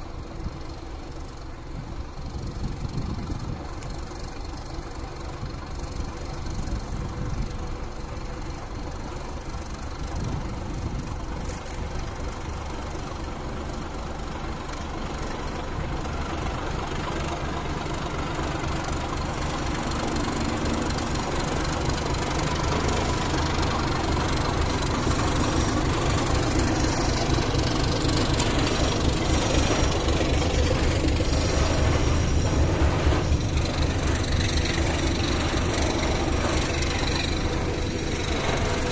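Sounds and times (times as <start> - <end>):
diesel locomotive engine running: 0.0 - 38.9.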